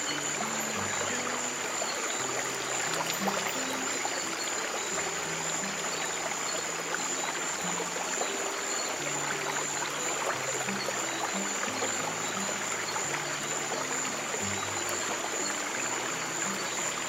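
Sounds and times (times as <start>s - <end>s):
soft low music notes: 0.0s - 17.0s
trickling stream: 0.0s - 17.0s.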